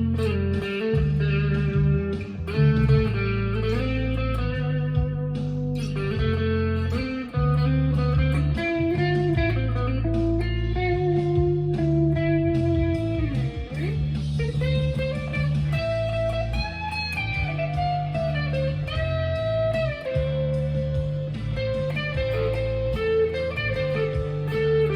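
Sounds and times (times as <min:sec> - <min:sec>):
electric guitar lead line: 0:00.0 - 0:24.9
low bass notes: 0:00.0 - 0:24.9.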